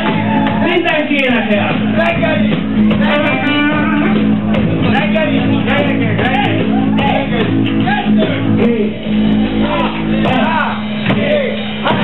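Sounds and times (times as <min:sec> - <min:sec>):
electric guitars and bass: 0:00.0 - 0:12.0.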